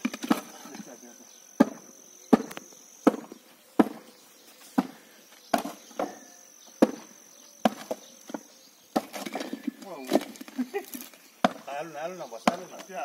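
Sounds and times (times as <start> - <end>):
high insect whine: 0.0 - 13.0.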